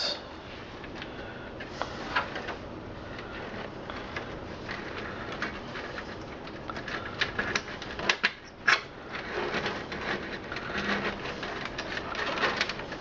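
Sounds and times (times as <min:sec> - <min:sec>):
cables and plastic parts handled: 0:00.6 - 0:13.0.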